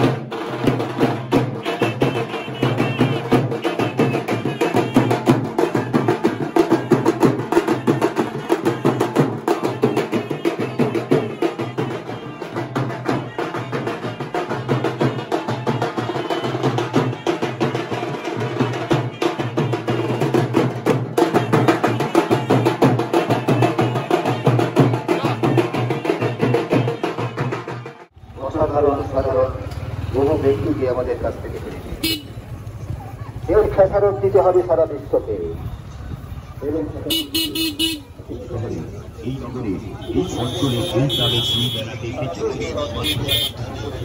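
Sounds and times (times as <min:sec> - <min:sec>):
drums beaten rapidly: 0:00.0 - 0:29.2, 0:36.8 - 0:44.0.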